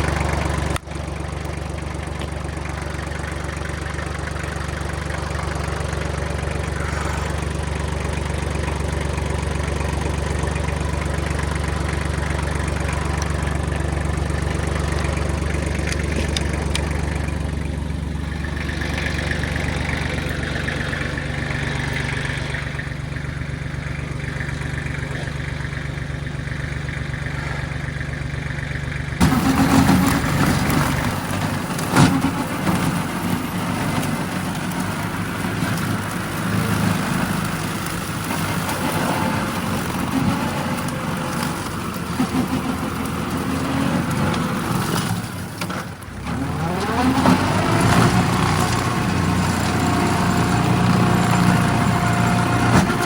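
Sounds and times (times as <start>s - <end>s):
diesel engine idling: 0.0s - 53.0s
rough engine noise with knocks: 0.0s - 53.0s.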